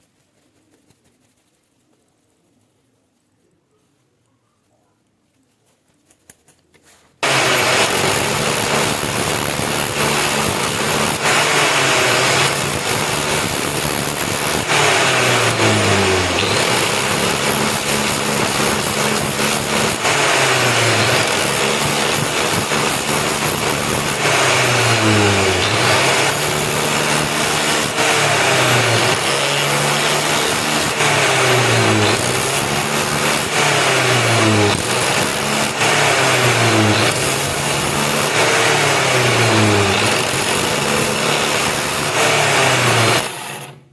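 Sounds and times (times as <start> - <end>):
electric power tool running: 7.2 - 43.9.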